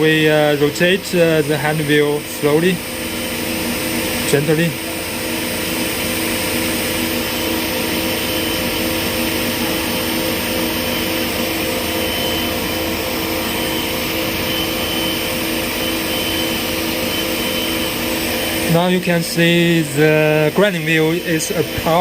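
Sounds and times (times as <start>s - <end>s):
grinding machine humming: 0.0s - 22.0s.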